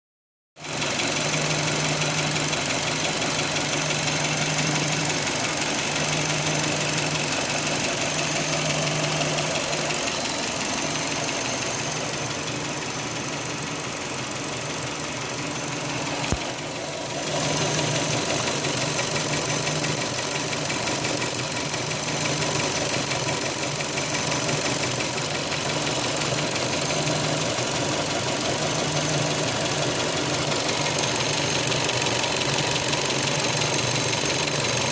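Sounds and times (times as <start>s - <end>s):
car engine running: 0.6s - 34.9s
engine ticking-knocking: 0.6s - 34.9s.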